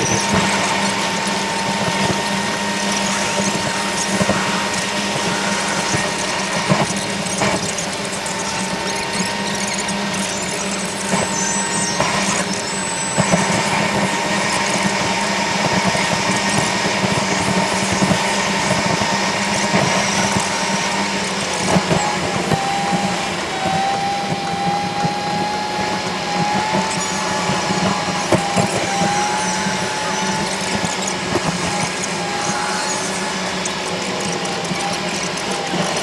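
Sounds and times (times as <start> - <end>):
thin whine: 0.0 - 36.0.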